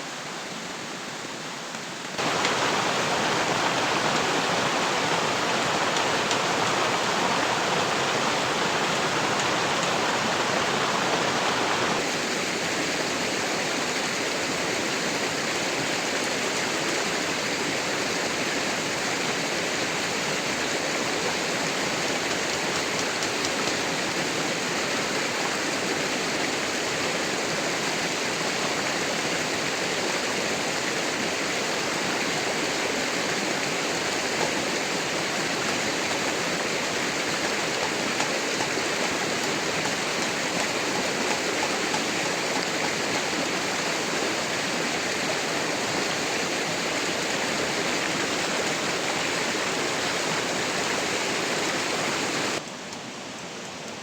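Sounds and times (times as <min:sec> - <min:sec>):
rushing water hiss: 0:00.0 - 0:54.0.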